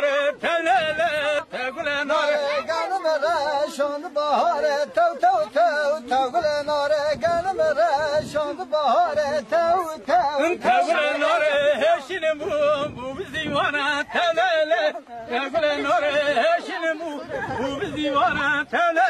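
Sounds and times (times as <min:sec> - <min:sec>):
man singing folk song: 0:00.0 - 0:19.0.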